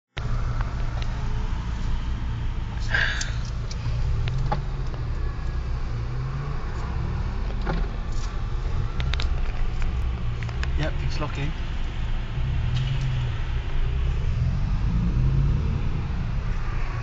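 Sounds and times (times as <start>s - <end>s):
car engine accelerating: 0.2s - 17.0s.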